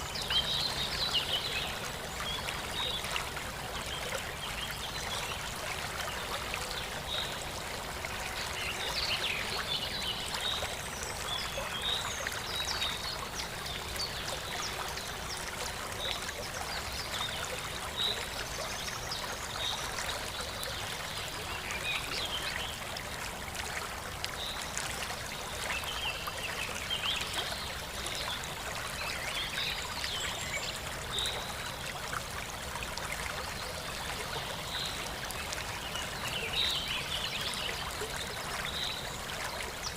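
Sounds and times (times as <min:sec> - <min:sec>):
water trickling and flowing: 0:00.0 - 0:39.9.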